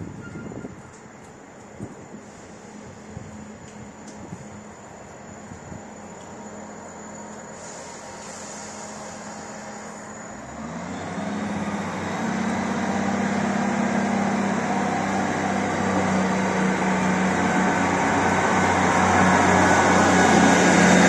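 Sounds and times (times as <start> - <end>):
train diesel engines: 0.0 - 21.0
wheels rumbling on rail: 0.0 - 21.0.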